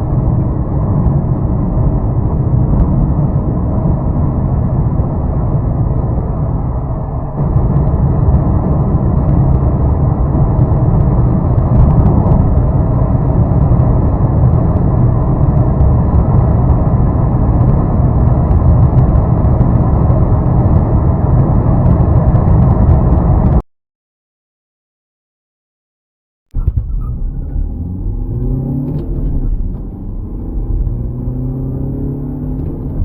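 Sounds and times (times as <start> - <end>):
car driving at speed: 0.0 - 23.6, 26.6 - 33.0.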